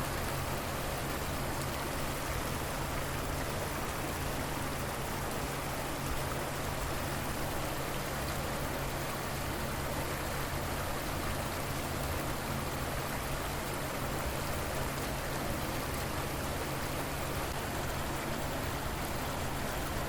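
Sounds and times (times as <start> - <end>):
river rushing and splashing: 0.0 - 20.0.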